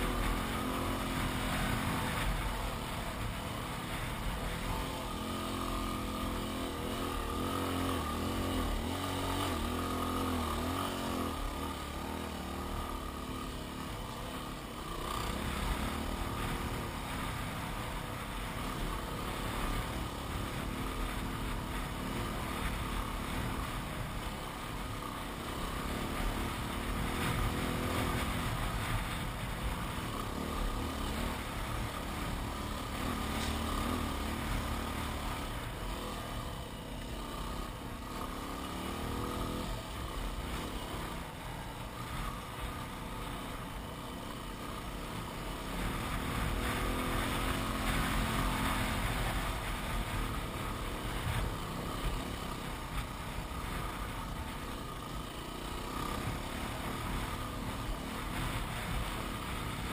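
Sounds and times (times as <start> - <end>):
motorcycle engine under load: 0.0 - 59.9.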